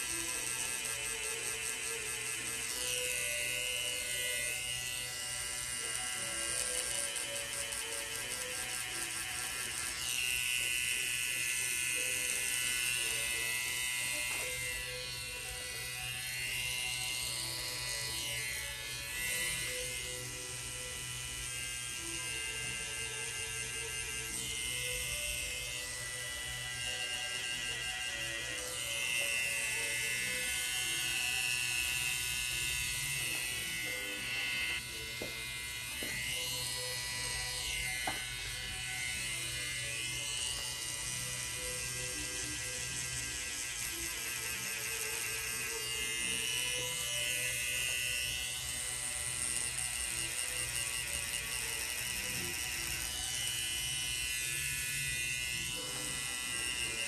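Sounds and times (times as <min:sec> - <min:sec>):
tattoo machine whirring: 0:00.0 - 0:57.0.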